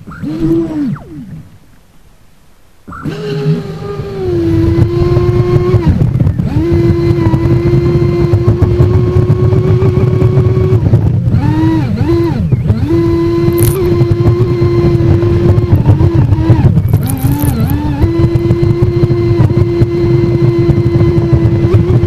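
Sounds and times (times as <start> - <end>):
electric motor whine: 0.0 - 1.7, 2.9 - 22.0
hull and water noise: 0.0 - 22.0.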